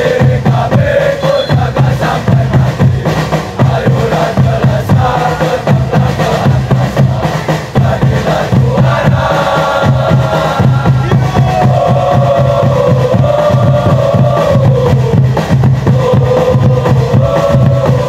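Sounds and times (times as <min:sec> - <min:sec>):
crowd singing a chant: 0:00.0 - 0:18.0
drums beating: 0:00.0 - 0:18.0.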